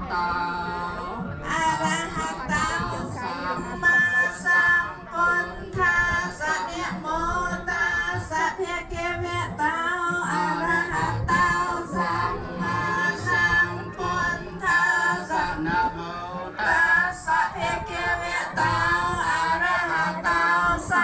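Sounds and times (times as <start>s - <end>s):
woman singing: 0.0s - 16.0s, 16.6s - 21.0s
low musical accompaniment: 0.0s - 21.0s.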